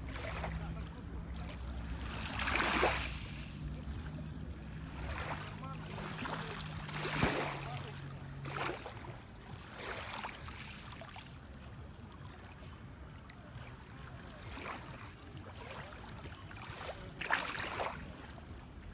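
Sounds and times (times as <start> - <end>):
small waves washing on shore: 0.0 - 18.9.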